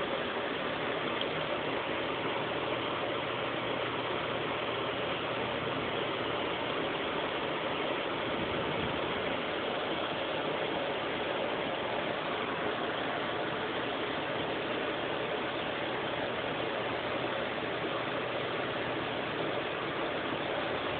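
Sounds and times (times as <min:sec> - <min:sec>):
box fan running: 0:00.0 - 0:20.9.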